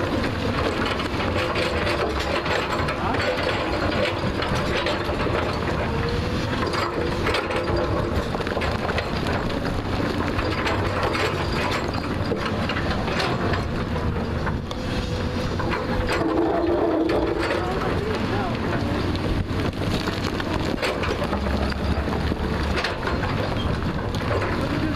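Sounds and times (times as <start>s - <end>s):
diesel engine running under load: 0.0s - 24.9s.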